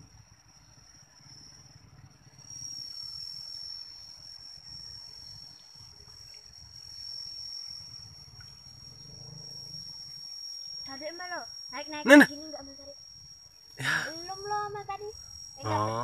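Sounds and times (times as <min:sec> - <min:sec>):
insect high-pitched trill: 0:00.0 - 0:16.0.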